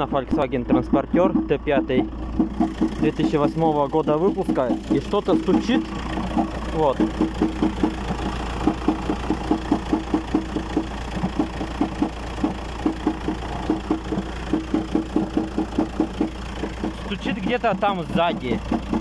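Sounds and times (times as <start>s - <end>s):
engine knocking: 0.0s - 19.0s
van engine idling: 0.0s - 19.0s.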